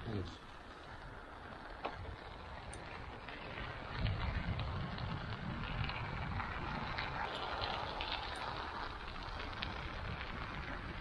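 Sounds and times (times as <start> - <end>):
bicycle tyres rolling over snow: 0.0 - 11.0
wind on microphone: 1.7 - 11.0.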